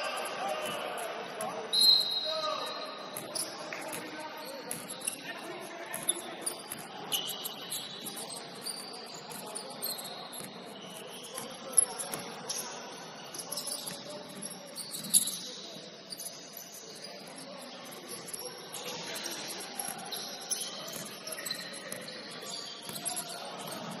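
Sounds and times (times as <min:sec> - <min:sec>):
shoes squeaking on gym floor: 0:00.0 - 0:24.0.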